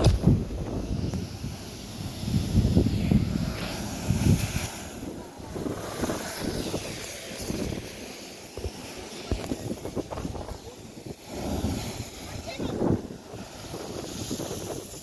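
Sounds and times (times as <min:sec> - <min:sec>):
sea surging through blowhole: 0:00.0 - 0:15.0
wind buffeting microphone: 0:00.0 - 0:15.0.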